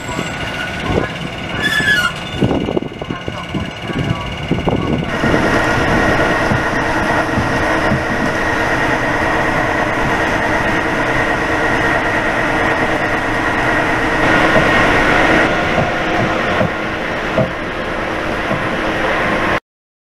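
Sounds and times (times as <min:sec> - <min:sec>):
locomotive mechanical hum: 0:00.0 - 0:19.6.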